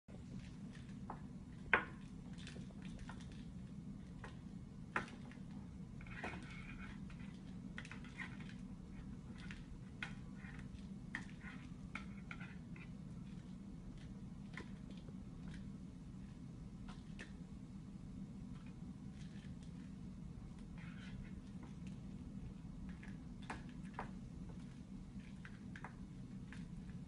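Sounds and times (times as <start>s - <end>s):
steady low hum: 0.1s - 27.0s.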